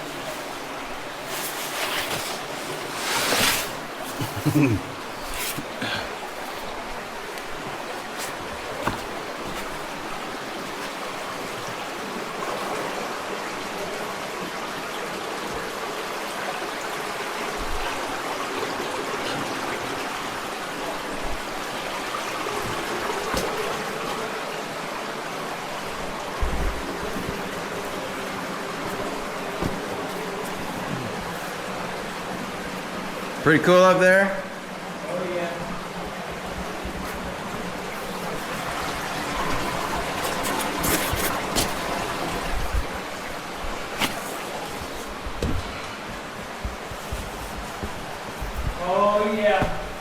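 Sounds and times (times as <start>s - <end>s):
creek water running: 0.0s - 50.0s.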